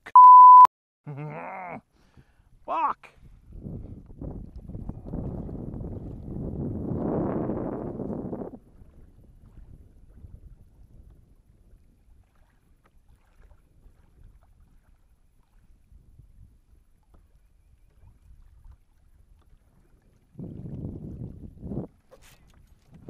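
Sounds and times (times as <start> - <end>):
wind rumbling on microphone: 3.2 - 23.0
small waves tapping hull: 3.3 - 23.0.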